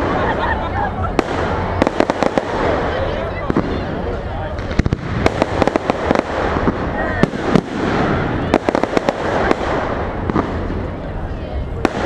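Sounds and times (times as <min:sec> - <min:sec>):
continuous hiss: 0:00.0 - 0:12.0
fireworks cracking and banging: 0:00.0 - 0:12.0.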